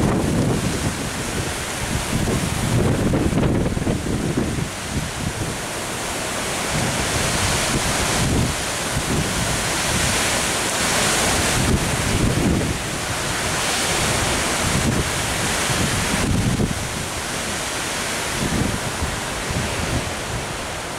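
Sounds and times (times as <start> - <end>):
wind buffeting microphone: 0.0 - 5.7, 6.6 - 20.9
storm wind through trees: 0.0 - 20.9.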